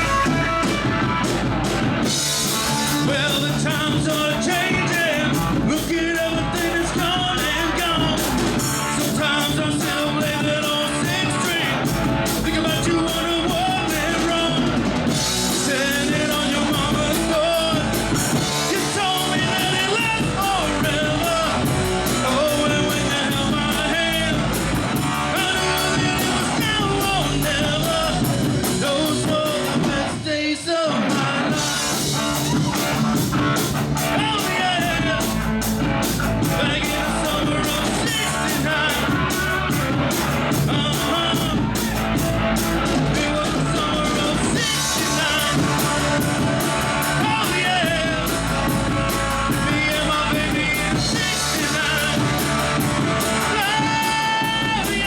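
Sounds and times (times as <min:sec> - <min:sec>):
person singing: 0:00.0 - 0:01.4, 0:02.3 - 0:55.0
live rock band playing: 0:00.0 - 0:55.0.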